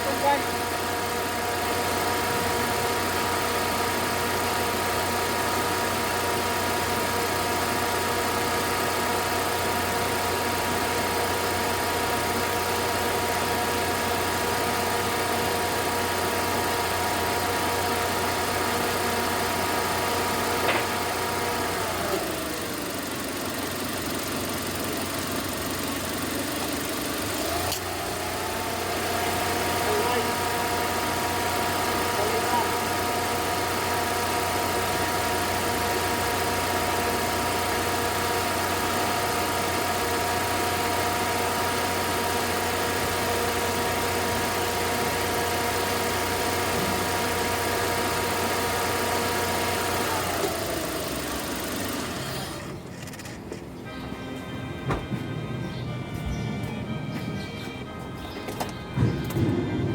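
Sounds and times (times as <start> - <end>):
pickup engine idling: 0.0 - 59.9.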